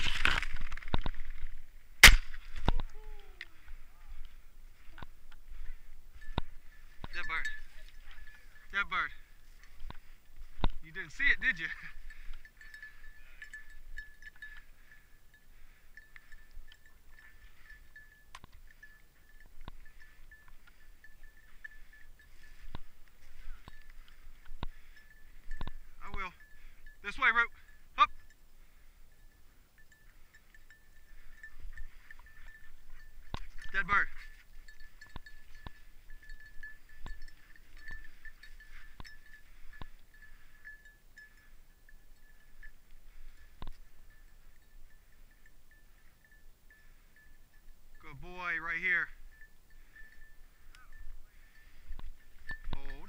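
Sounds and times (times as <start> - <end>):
dog collar bell ringing: 4.2 - 53.0.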